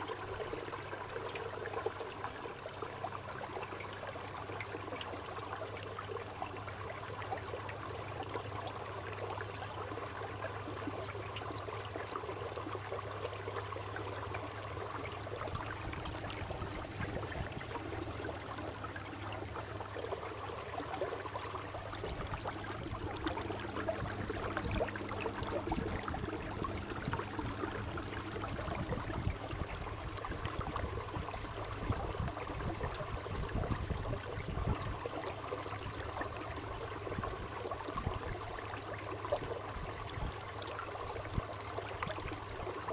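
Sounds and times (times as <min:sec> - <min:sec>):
water rushing along hull: 0:00.0 - 0:42.9.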